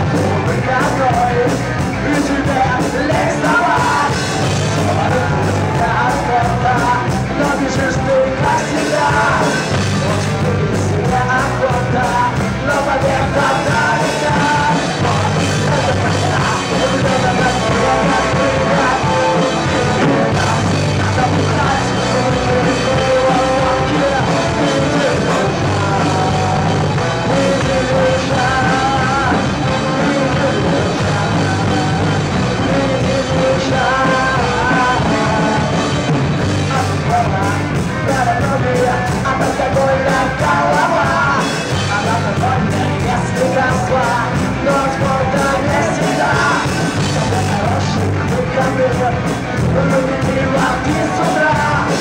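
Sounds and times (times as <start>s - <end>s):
rock band playing live: 0.0s - 52.0s
singer shouting vocals: 0.0s - 52.0s.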